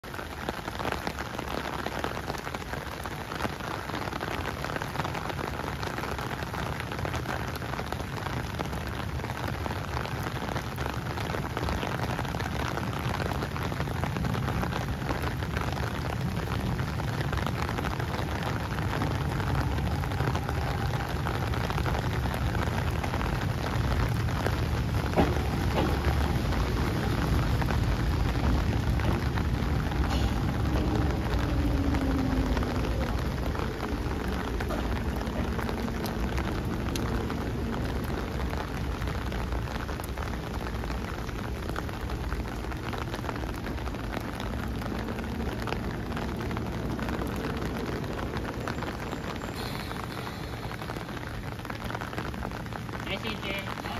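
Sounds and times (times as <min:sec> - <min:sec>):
rain pattering on surfaces: 0:00.0 - 0:53.9
electric train rumble: 0:09.5 - 0:53.9.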